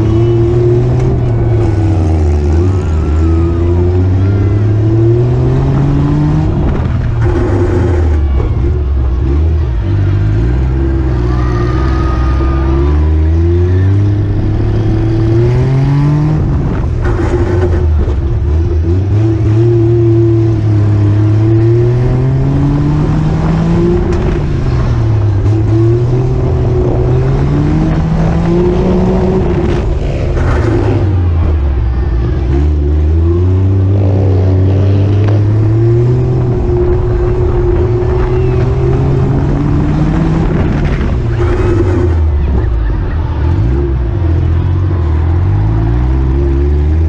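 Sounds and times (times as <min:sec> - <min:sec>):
small car engine revving: 0:00.0 - 0:47.0.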